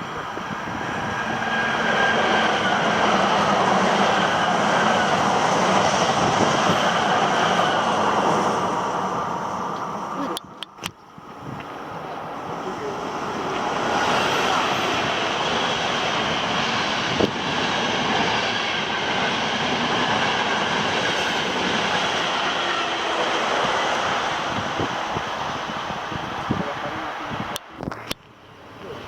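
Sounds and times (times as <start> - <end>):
train passing on rails: 0.0 - 29.0.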